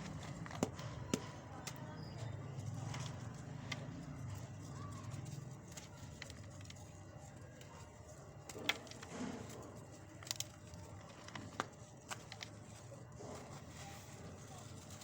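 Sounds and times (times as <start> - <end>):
cement lumps crunching and cracking: 0.0 - 15.0.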